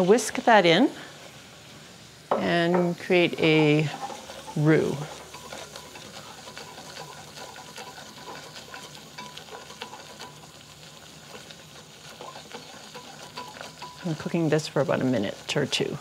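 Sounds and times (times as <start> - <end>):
soft sizzle of cooking roux: 0.0 - 16.0
whisk scraping a saucepan: 3.1 - 16.0.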